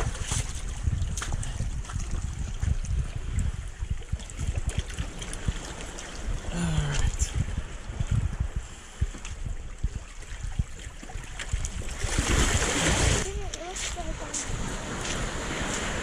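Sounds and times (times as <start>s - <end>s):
small waves sloshing among rocks: 0.0s - 8.1s, 8.7s - 16.0s.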